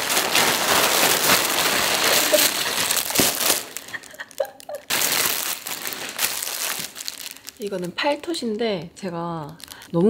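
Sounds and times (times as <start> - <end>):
packaging crinkling and tearing: 0.0 - 8.4, 9.4 - 10.0.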